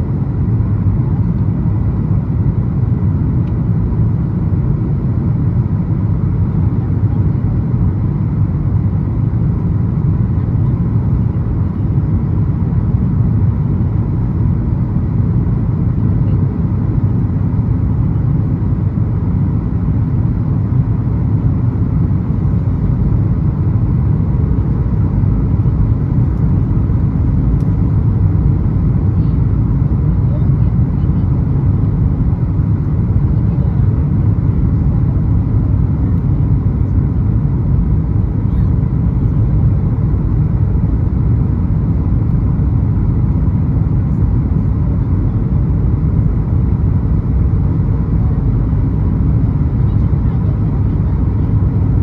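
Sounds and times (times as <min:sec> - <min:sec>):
airliner cabin rumble: 0:00.0 - 0:52.0.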